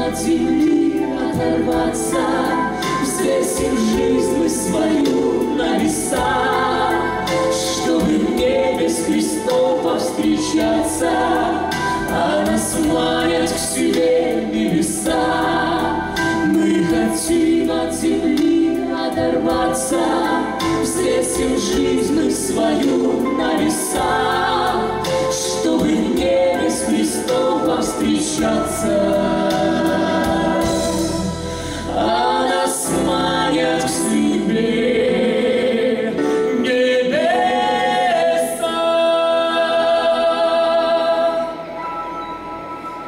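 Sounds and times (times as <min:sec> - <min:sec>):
vocal group singing in harmony: 0:00.0 - 0:43.0.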